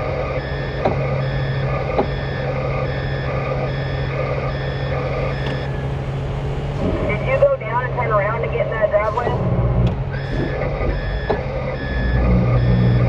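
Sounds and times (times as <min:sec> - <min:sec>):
truck engine hum: 0:00.0 - 0:13.0
truck reversing alarm beeping: 0:00.0 - 0:13.0.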